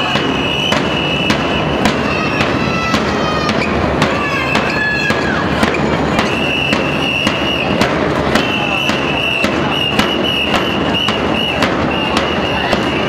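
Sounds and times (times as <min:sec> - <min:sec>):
shrill whistle: 0:00.0 - 0:03.8, 0:06.2 - 0:13.0
bass drums and cymbals: 0:00.0 - 0:13.0.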